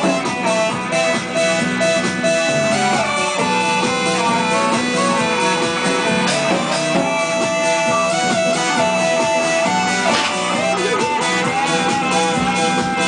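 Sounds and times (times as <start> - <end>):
song played on guitar: 0.0 - 13.0.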